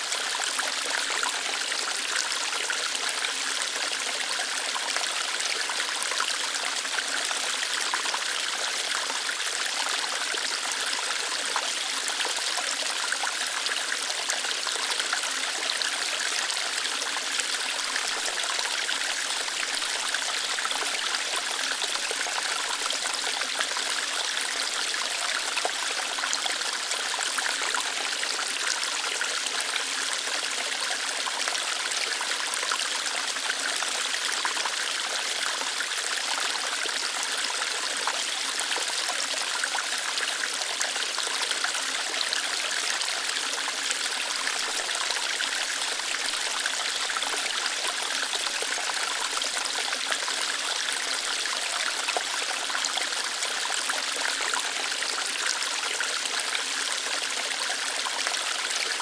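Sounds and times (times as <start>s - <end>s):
water flowing over rocks: 0.0s - 59.0s.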